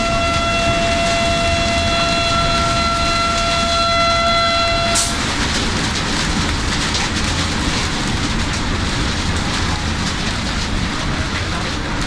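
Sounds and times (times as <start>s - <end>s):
heavy rain on windscreen: 0.0s - 12.0s
train running at speed: 0.0s - 12.0s.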